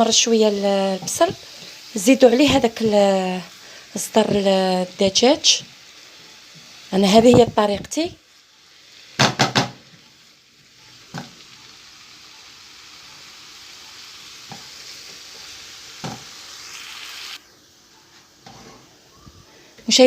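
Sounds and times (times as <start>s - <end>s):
onion sizzling in oil: 0.0s - 19.2s.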